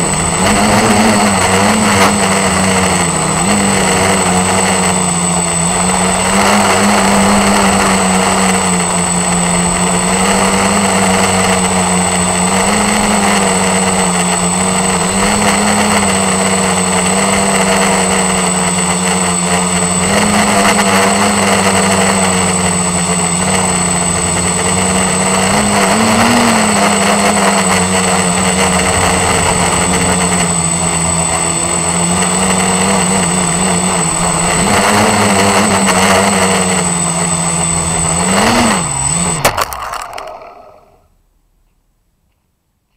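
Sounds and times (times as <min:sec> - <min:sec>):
drone propellers buzzing: 0:00.0 - 0:41.2
thin high whine: 0:00.0 - 0:41.2.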